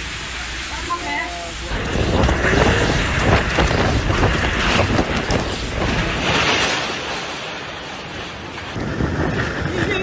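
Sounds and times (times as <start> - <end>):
strong storm wind rushing: 1.4 - 10.0.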